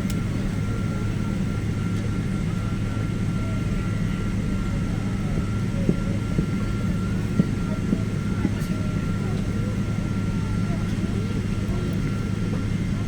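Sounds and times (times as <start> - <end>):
airliner engine drone in cabin: 0.0 - 13.0.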